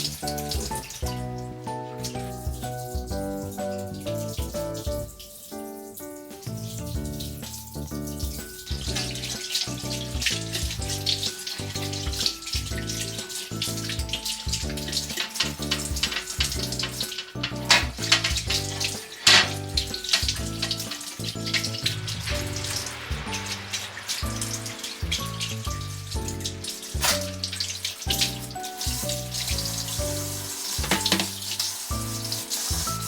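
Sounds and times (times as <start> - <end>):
background music: 0.0 - 33.0
water running from a tap: 0.0 - 33.0.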